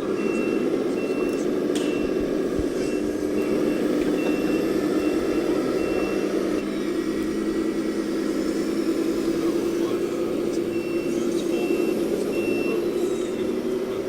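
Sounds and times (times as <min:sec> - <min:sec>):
model truck engine sound: 0:00.0 - 0:14.0
reversing beeper: 0:00.0 - 0:14.0.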